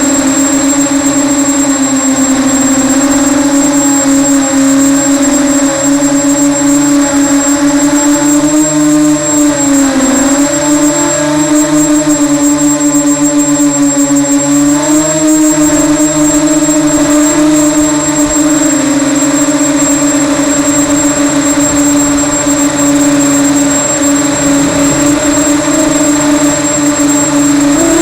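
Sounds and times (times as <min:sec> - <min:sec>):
drone propellers whirring: 0:00.0 - 0:28.0
thin high whine: 0:00.0 - 0:28.0.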